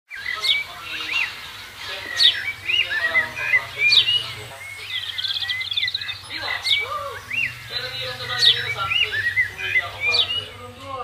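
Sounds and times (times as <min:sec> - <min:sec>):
warbling bird chirps: 0:00.1 - 0:10.8
faint low hum: 0:00.6 - 0:11.0.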